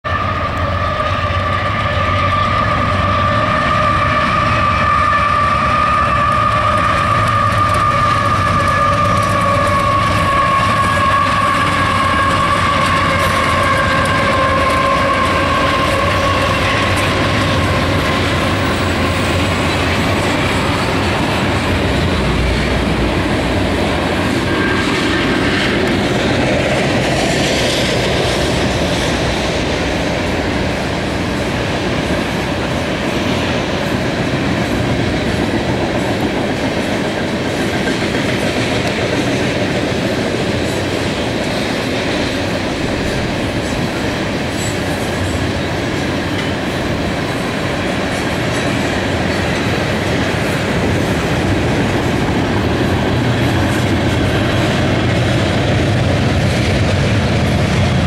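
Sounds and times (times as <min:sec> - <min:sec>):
deep locomotive rumble: 0:00.1 - 0:58.0
train wheels clattering over rail joints: 0:01.6 - 0:58.0.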